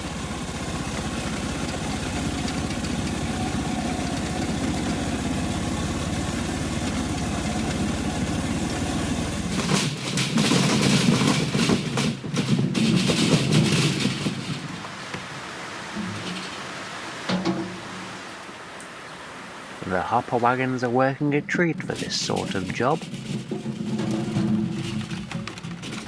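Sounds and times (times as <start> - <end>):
locomotive engine idling: 0.0 - 18.8, 19.8 - 26.0
rough rushing noise with crackles: 0.0 - 18.8, 19.8 - 26.0.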